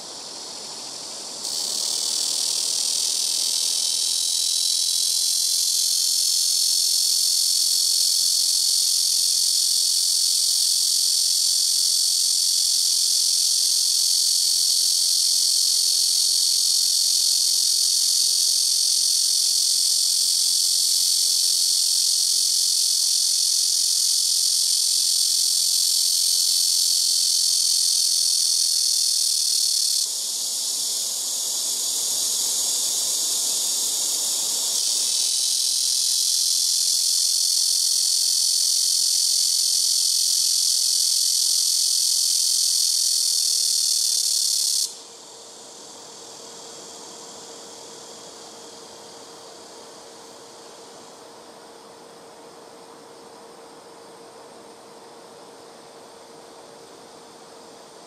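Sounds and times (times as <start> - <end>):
cicada buzzing drone: 0.0 - 58.0.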